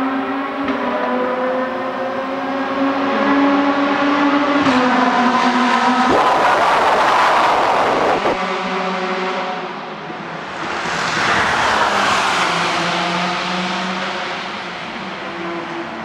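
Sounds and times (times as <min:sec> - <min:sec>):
engine and tyre noise surge: 0:00.0 - 0:16.0
race car passing at speed: 0:00.0 - 0:16.0.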